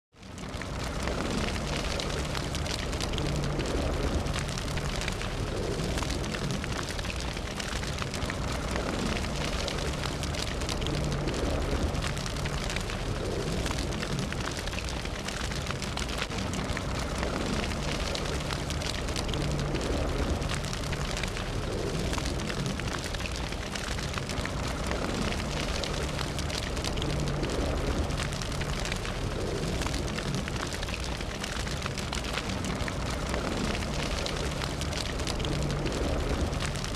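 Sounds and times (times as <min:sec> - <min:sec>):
fire crackling: 0:00.1 - 0:36.9
low rumble: 0:00.2 - 0:36.9.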